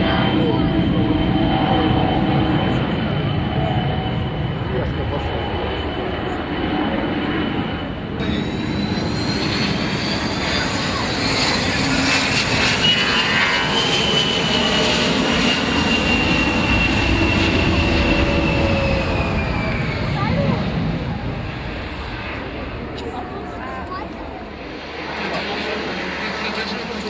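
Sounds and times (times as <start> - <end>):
aircraft engine whining: 0.0 - 27.0.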